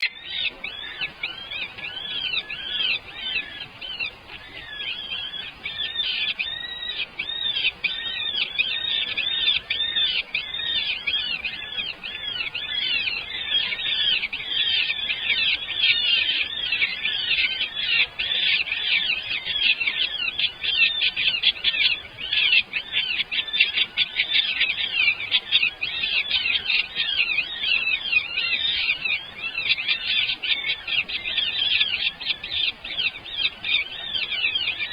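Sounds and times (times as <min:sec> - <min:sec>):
baby birds chirping: 0:00.0 - 0:34.9.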